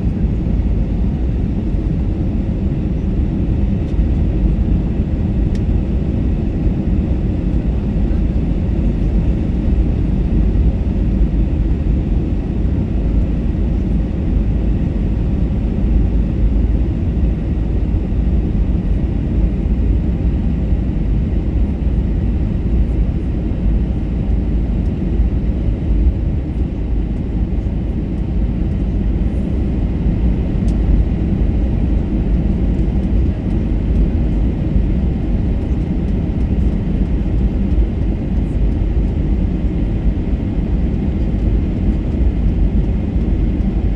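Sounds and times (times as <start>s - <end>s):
airplane cabin engine rumble: 0.0s - 43.9s.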